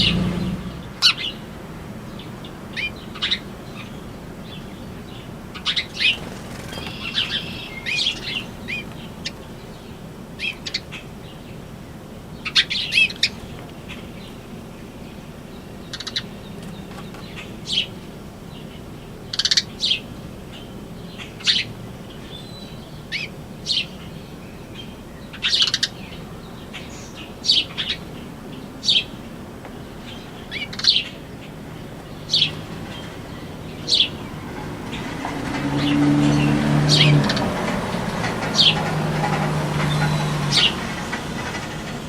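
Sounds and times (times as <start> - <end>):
bird chirping: 0.0 - 1.5, 2.1 - 11.6, 12.3 - 42.0.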